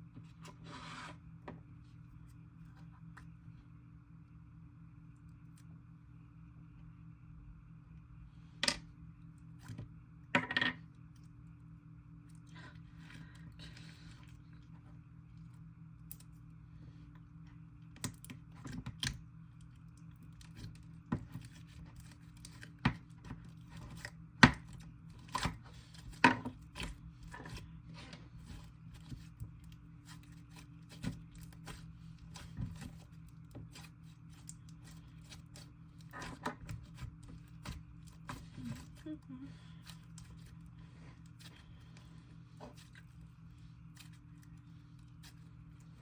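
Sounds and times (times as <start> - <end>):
low background hum: 0.0 - 46.0.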